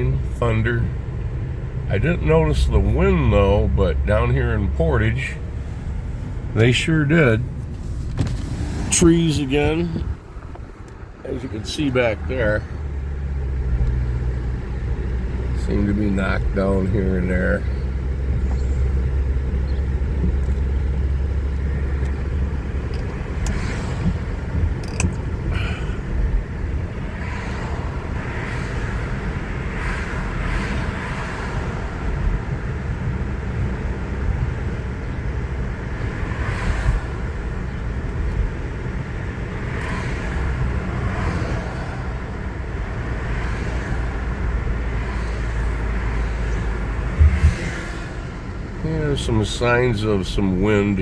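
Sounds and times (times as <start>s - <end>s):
car interior road noise: 0.0s - 51.0s.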